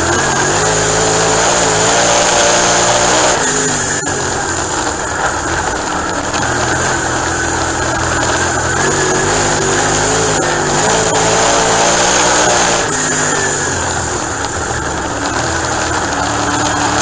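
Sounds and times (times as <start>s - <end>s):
race car engine at speed: 0.0s - 17.0s.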